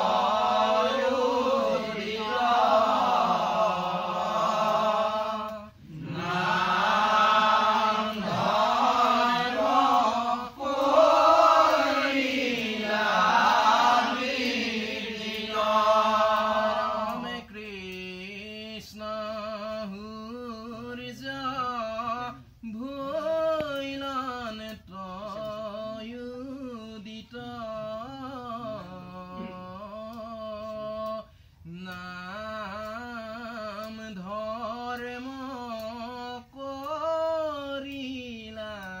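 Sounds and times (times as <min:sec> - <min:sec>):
voices chanting together: 0:00.0 - 0:39.0.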